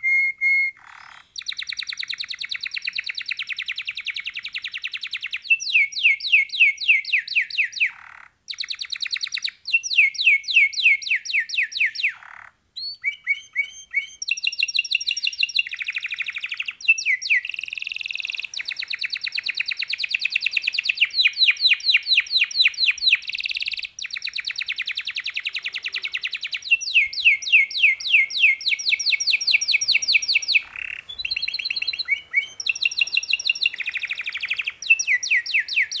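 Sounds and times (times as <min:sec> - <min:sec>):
canary singing trills: 0:00.0 - 0:36.0.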